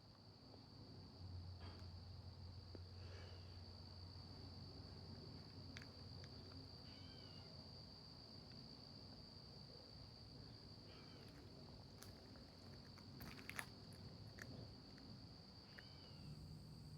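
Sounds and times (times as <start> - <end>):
crickets trilling: 2.3 - 16.9.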